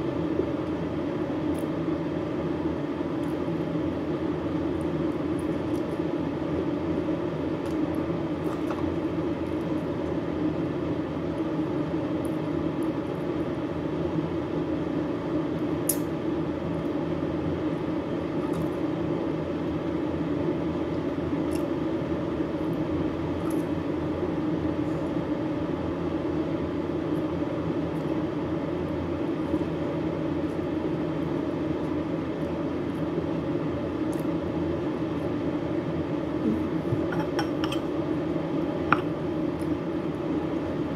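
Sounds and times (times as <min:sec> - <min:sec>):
steady droning machine noise: 0:00.0 - 0:40.9.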